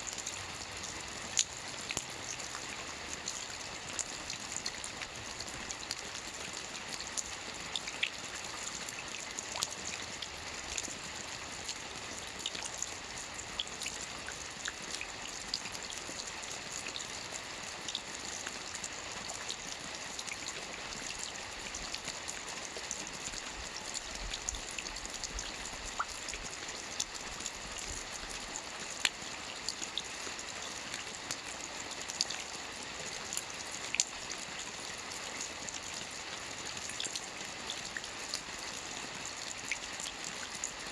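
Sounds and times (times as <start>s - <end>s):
rain falling on water: 0.0s - 40.9s.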